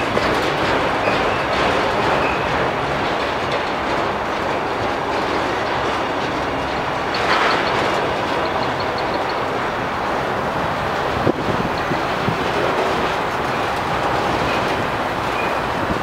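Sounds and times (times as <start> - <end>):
steel wheels clattering on rails: 0.0 - 16.0.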